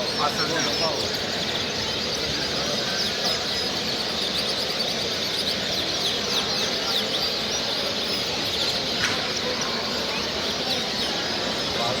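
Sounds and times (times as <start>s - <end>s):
small birds chirping: 0.0s - 12.0s
steady background noise: 0.0s - 12.0s.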